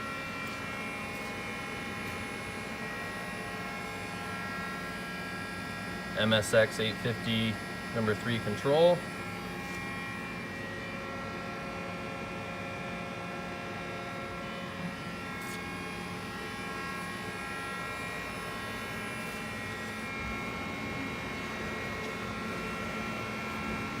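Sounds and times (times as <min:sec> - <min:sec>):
machine hum with steady tones: 0:00.0 - 0:24.0.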